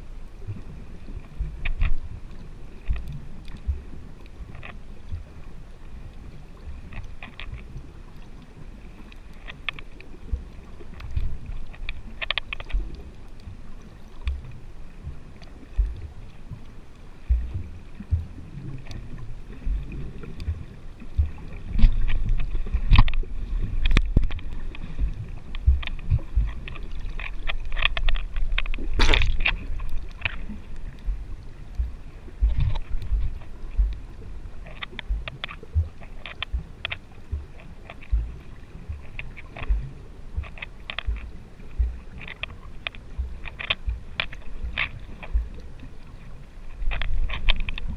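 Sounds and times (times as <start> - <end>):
underwater rumbling and knocks: 0.0 - 47.9.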